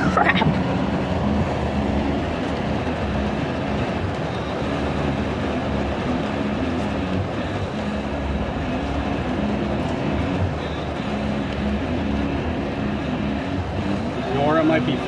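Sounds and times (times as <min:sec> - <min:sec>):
heavy rain on car: 0:00.0 - 0:15.0
road and engine noise: 0:00.0 - 0:15.0.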